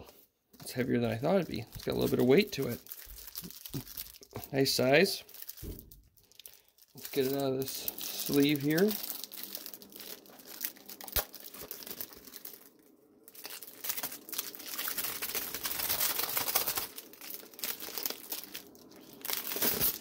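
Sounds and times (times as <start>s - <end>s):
plastic sleeve crinkling: 0.6s - 20.0s.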